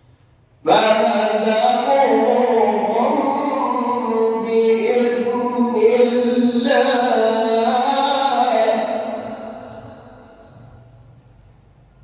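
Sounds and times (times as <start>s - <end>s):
man reciting melodically: 0.6s - 11.1s.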